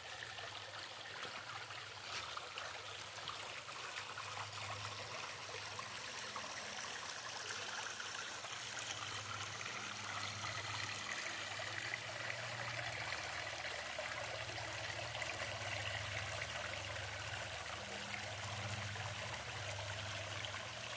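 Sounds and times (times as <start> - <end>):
creek and waterfall flowing: 0.0 - 20.9.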